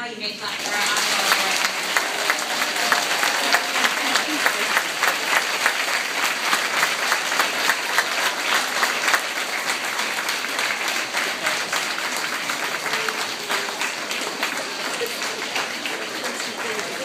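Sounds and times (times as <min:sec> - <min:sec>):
audience applauding: 0:00.5 - 0:17.0.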